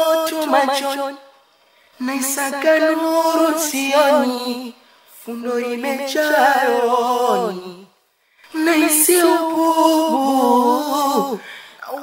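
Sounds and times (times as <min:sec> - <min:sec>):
person singing unaccompanied: 0:00.0 - 0:01.2, 0:02.0 - 0:11.5.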